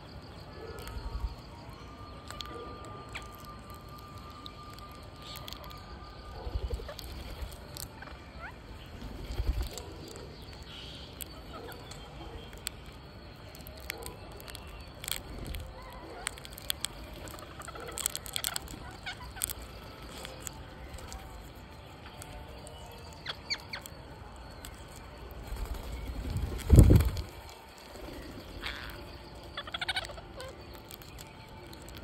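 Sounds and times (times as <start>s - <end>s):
parakeets chirping: 0.0s - 32.0s.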